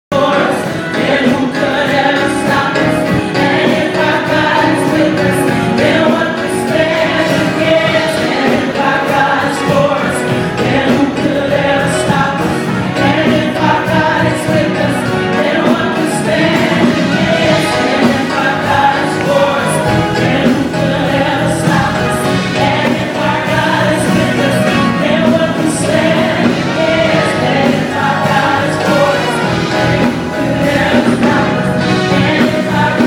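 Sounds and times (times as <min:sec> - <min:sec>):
group singing worship song: 0:00.1 - 0:33.0
instrumental backing music: 0:00.1 - 0:33.0.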